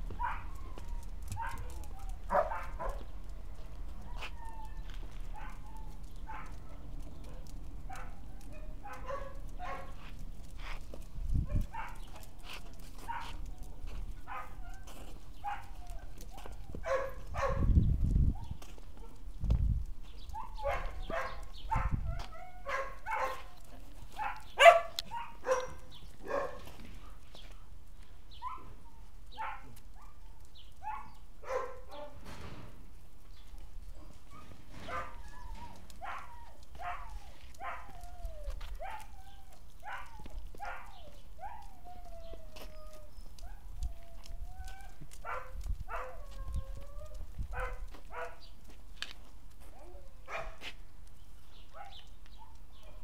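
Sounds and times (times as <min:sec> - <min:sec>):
dogs yipping and whining: 0:00.0 - 0:17.7, 0:20.1 - 0:27.7, 0:28.3 - 0:32.2, 0:33.8 - 0:48.5, 0:49.6 - 0:50.6, 0:51.5 - 0:53.0.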